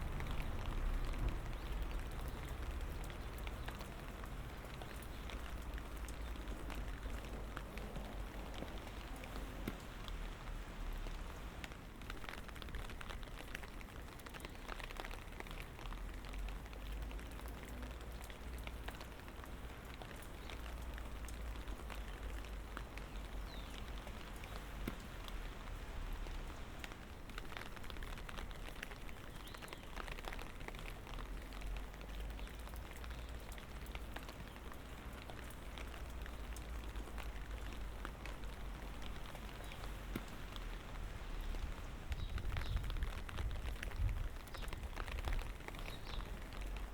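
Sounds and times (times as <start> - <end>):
light rain pattering: 0.0 - 46.9.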